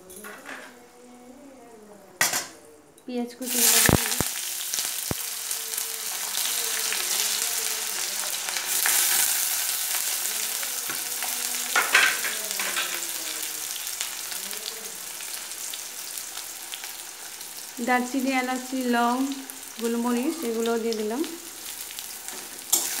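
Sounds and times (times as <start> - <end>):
onions sizzling in oil: 3.3 - 23.0.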